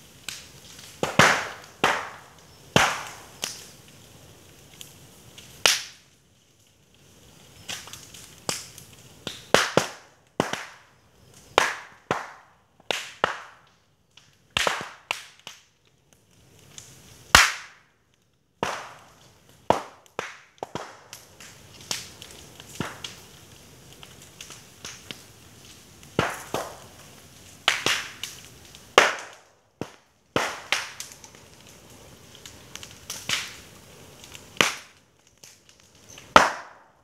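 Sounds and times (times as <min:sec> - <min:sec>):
burning bamboo popping: 0:00.0 - 0:37.0.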